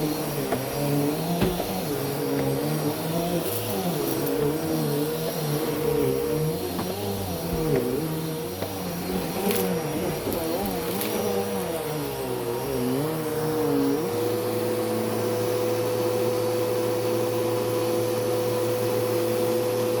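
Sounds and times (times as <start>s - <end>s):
vacuum cleaner running on carpet: 0.0s - 20.0s.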